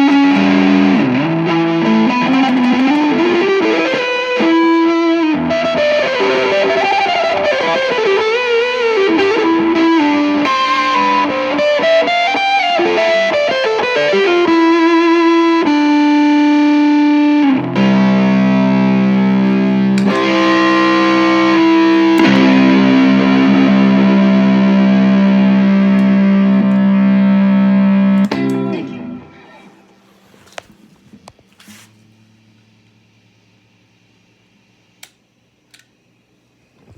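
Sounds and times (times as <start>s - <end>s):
distorted guitar chords: 0.0s - 30.0s
overdriven electric guitar lead: 0.0s - 30.0s.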